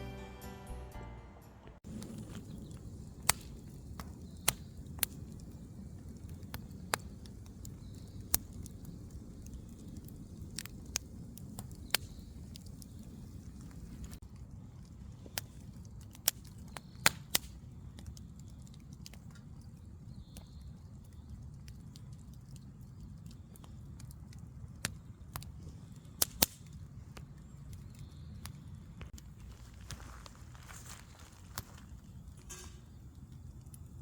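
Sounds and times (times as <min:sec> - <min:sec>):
wood fire crackling and popping: 0:01.8 - 0:34.0.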